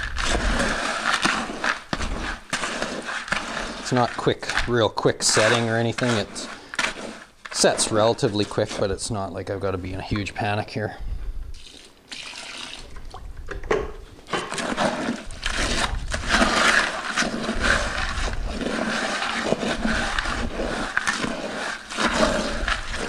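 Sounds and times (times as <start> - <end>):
paddle scraping plastic bucket: 0.0 - 10.3, 14.2 - 23.0
concrete sloshing in a bucket: 0.0 - 10.6, 11.6 - 13.4, 14.2 - 23.0.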